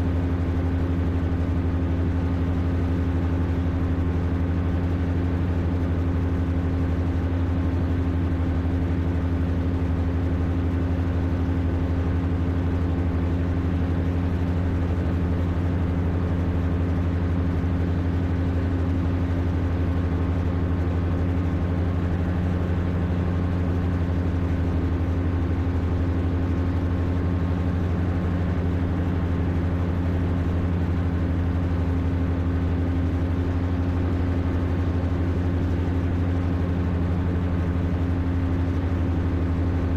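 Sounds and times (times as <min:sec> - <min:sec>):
microlight engine droning: 0:00.0 - 0:39.9.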